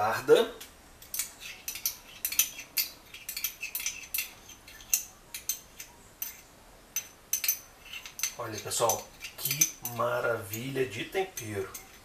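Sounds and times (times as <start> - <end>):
metal spoon clinking on containers: 1.0 - 12.0.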